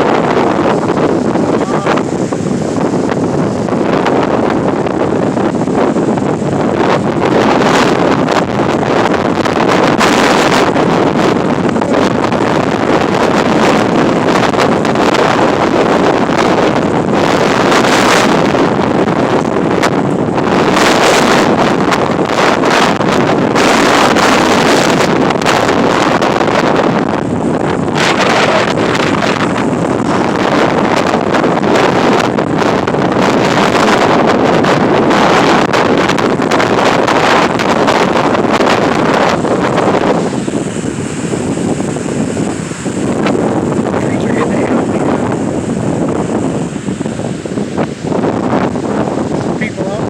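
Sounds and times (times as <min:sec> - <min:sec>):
gusty wind buffeting microphone: 0:00.0 - 0:50.0.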